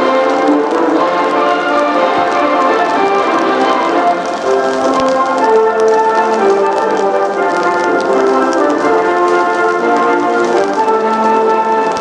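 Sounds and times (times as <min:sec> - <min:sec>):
music with sustained notes: 0:00.0 - 0:12.0
faint light ticks: 0:02.3 - 0:12.0.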